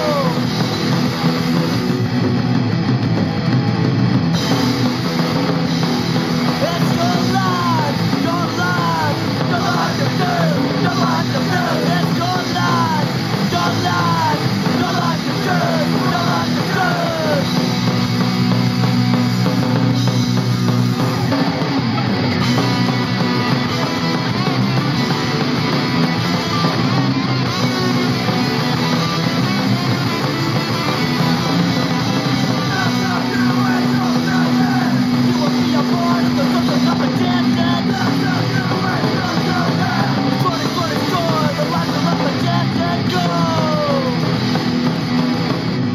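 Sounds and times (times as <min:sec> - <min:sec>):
punk song with electric guitar: 0:00.0 - 0:45.9.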